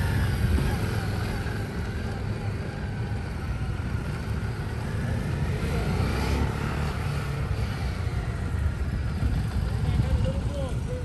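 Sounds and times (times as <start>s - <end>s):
motorcycle engines passing: 0.0s - 11.0s.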